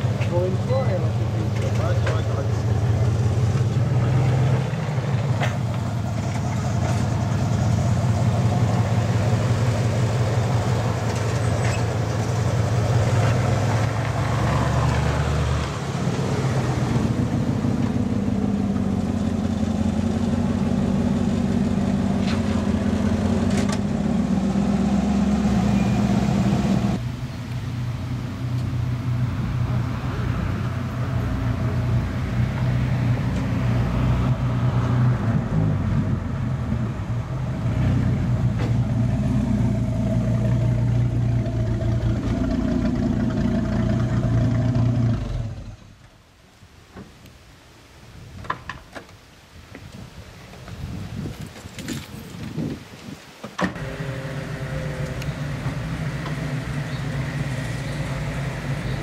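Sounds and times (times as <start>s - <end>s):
car engine at low revs: 0.0s - 46.1s, 53.7s - 59.0s
car engine driving slowly: 0.0s - 47.5s, 48.4s - 59.0s.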